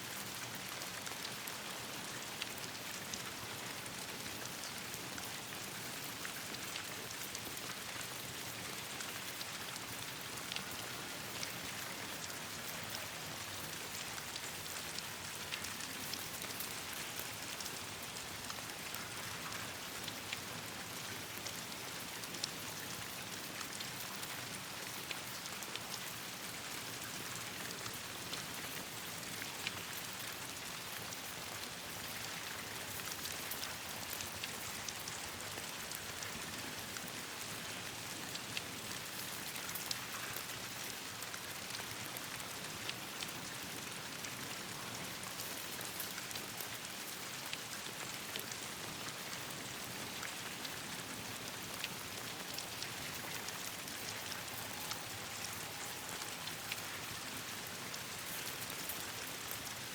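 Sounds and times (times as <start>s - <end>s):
steady rain on leaves: 0.0s - 59.9s.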